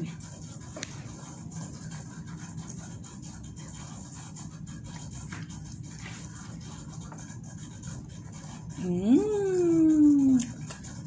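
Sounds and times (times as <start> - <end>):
child chewing corn: 0.1 - 11.0.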